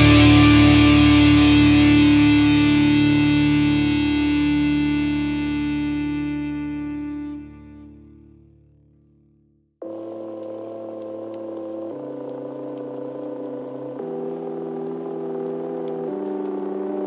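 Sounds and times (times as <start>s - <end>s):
sustained chords music: 0.0s - 17.0s.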